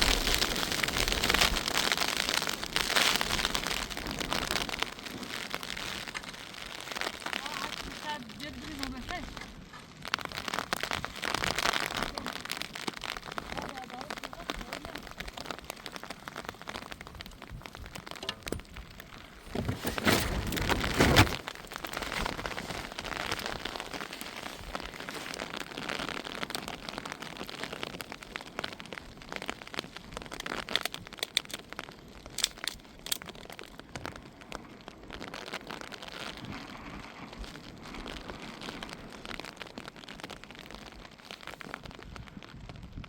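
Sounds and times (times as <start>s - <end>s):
crackles and clicks: 0.0s - 43.0s
rain falling: 0.0s - 43.0s.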